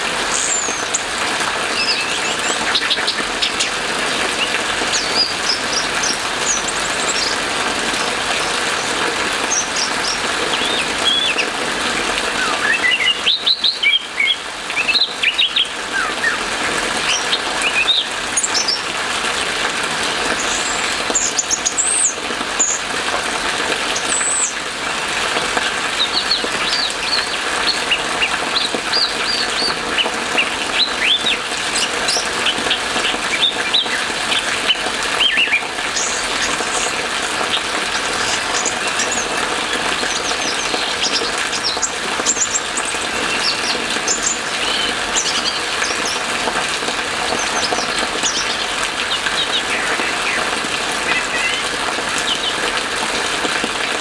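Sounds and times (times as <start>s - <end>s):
rain hissing: 0.0s - 54.0s.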